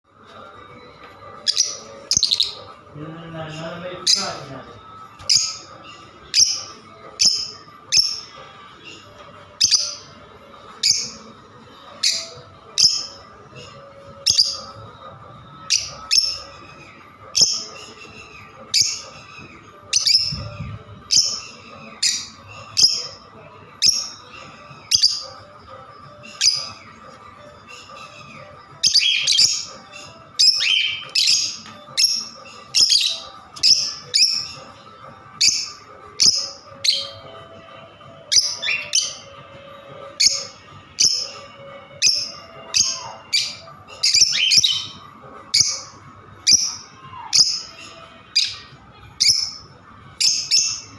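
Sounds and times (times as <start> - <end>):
lovebirds chirping: 0.1 - 50.9.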